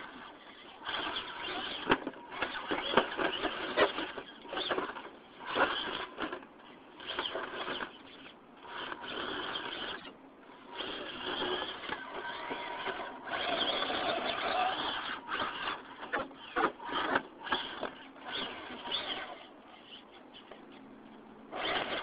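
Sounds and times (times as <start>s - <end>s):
toy truck motor whirring: 0.0s - 22.0s.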